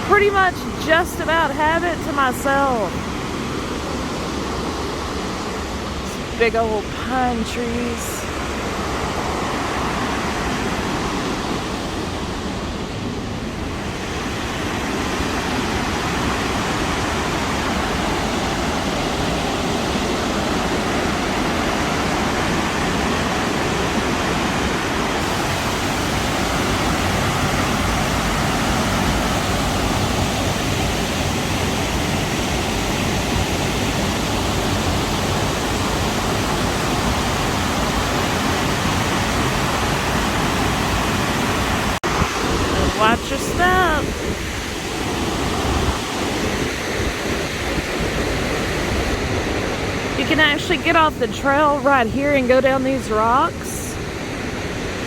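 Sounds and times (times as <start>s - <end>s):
waterfall rushing: 0.0s - 51.8s.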